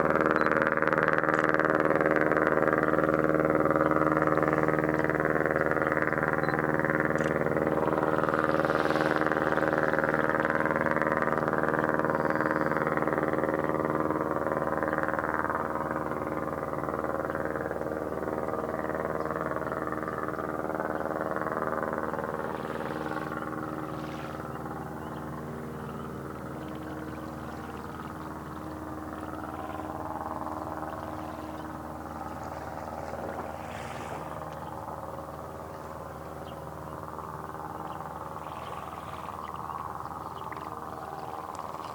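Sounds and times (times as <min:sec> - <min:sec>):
engine droning: 0:00.0 - 0:41.9.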